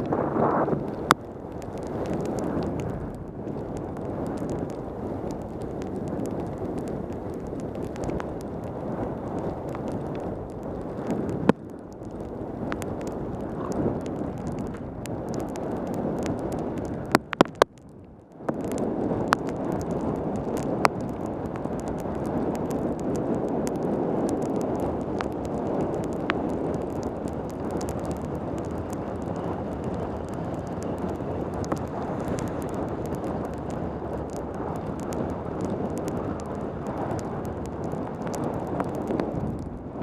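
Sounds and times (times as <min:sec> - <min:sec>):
pouring rain: 0:00.0 - 0:40.0
wet tyre noise: 0:00.0 - 0:40.0
wind rushing over microphone: 0:00.0 - 0:40.0
sharp ticks: 0:00.8 - 0:39.7.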